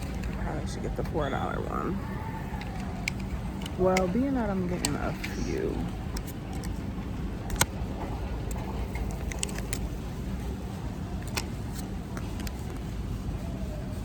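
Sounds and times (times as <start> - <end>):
store background rumble: 0.0 - 14.0.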